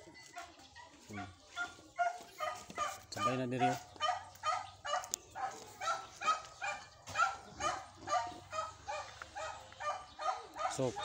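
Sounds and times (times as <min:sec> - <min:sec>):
dog barking: 0:01.1 - 0:11.0.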